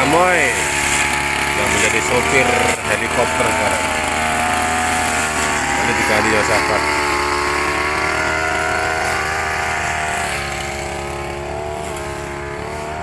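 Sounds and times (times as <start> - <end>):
brush cutter engine cutting grass: 0.0 - 13.0.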